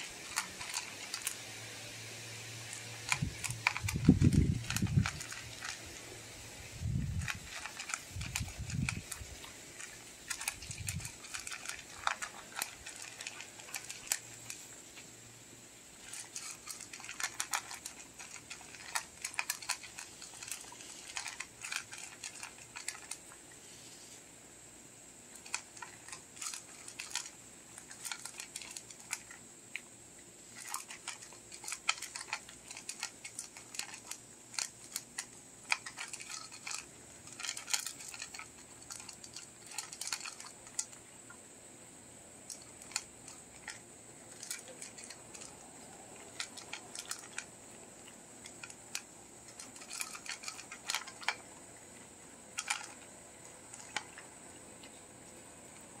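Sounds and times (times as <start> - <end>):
dog crunching dry kibble: 0.0 - 1.8, 2.4 - 15.2, 15.9 - 23.5, 25.3 - 41.4, 42.4 - 56.0.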